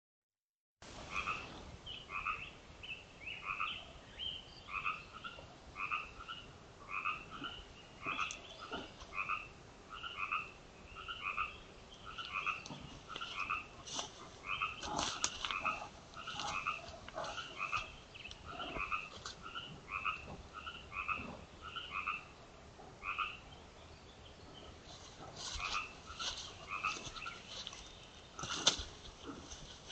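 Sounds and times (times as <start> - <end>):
frogs croaking in chorus: 1.1 - 2.6, 3.3 - 3.9, 4.6 - 22.4, 23.0 - 23.6, 25.2 - 29.6.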